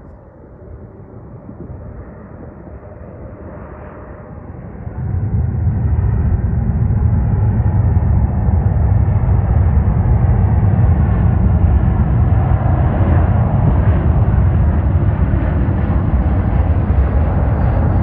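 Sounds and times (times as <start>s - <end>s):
jet engines rumbling and hissing: 0.0s - 18.0s.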